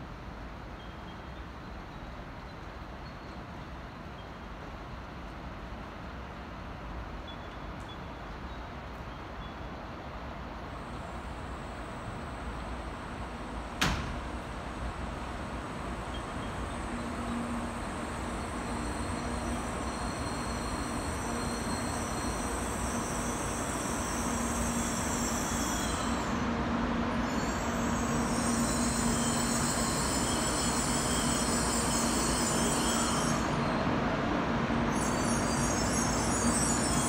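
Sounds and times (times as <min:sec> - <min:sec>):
train pulling into platform: 0:00.0 - 0:37.0.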